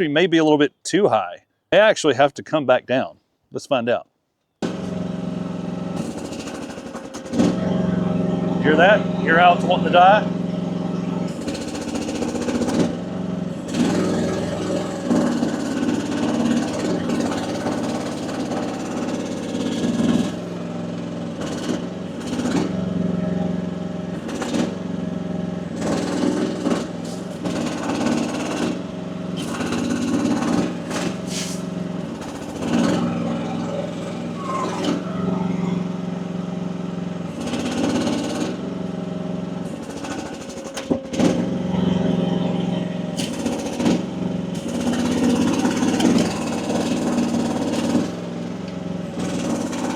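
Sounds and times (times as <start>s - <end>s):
mini excavator engine labouring: 4.6s - 49.9s.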